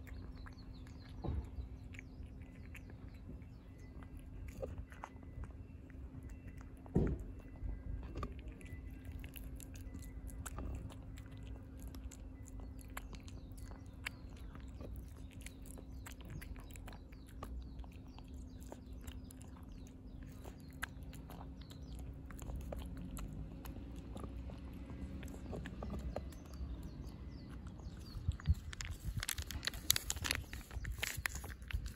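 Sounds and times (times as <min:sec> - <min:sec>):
cat chewing wet food: 0:00.0 - 0:31.9.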